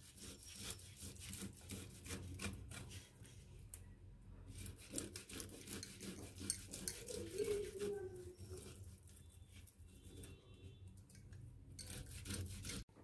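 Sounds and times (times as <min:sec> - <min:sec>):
potato grating rasps: 0:00.0 - 0:03.4, 0:04.5 - 0:10.3, 0:11.2 - 0:12.9.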